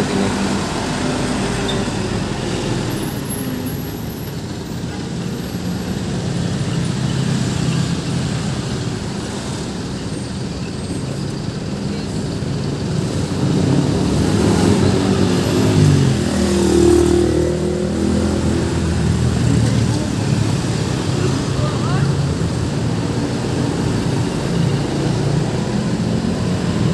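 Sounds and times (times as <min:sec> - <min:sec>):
heavy engine accelerating: 0:00.0 - 0:26.9
road traffic moving: 0:00.0 - 0:26.9.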